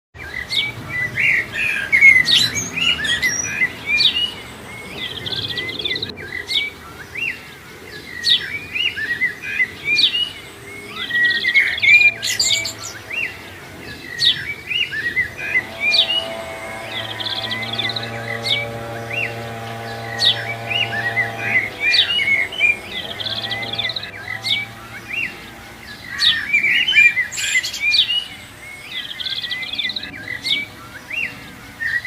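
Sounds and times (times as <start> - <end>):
songbirds chirping and trilling: 0.2 - 32.0.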